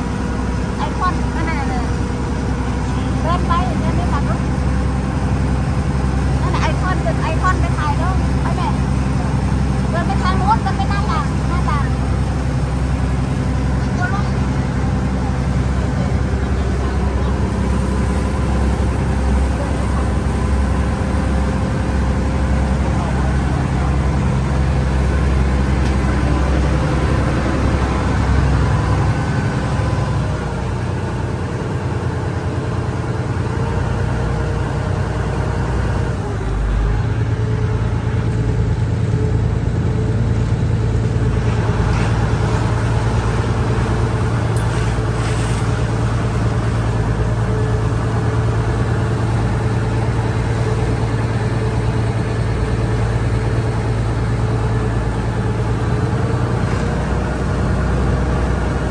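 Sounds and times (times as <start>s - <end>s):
ferry engine running: 0.0s - 58.9s
water noise: 0.0s - 58.9s.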